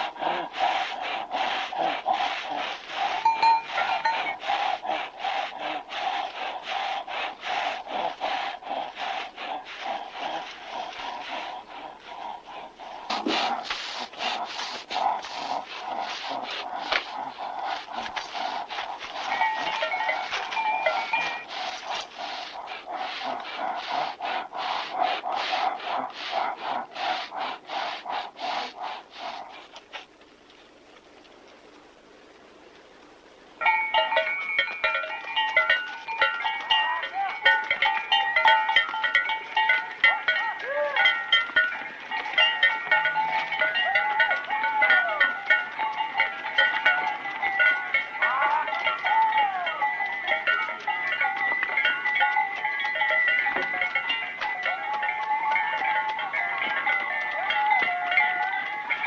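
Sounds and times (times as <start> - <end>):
rhythmic rasping squealing creak: 0.0 - 29.5, 33.6 - 59.0.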